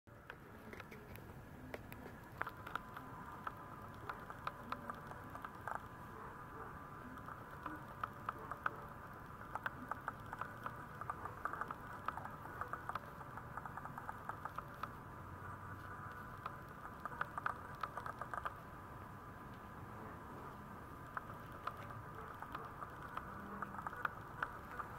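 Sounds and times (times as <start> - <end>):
puppy claws clicking on vinyl floor: 0.2 - 6.3, 7.1 - 15.0, 16.1 - 18.6, 21.0 - 24.9.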